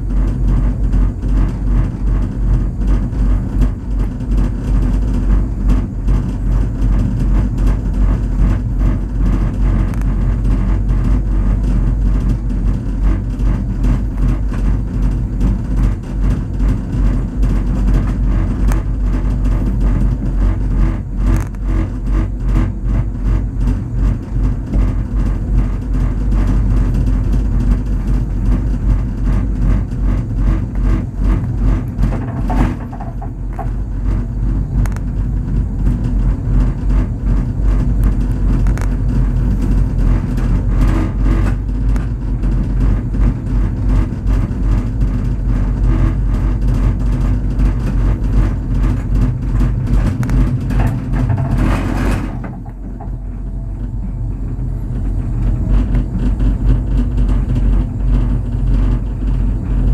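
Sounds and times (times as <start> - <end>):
cable car cabin rumbling: 0.0 - 59.9.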